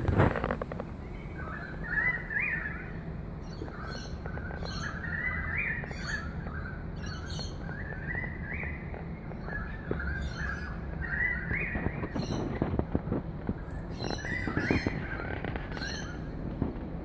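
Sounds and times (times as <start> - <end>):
birds chirping and warbling: 0.0 - 17.0
steady low rumble: 0.0 - 17.0.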